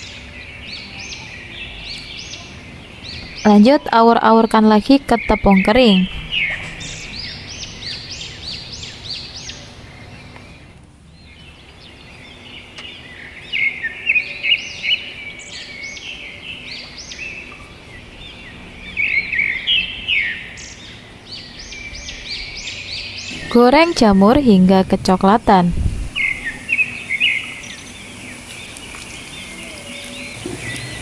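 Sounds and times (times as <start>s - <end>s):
small songbirds chirping: 0.0s - 31.0s.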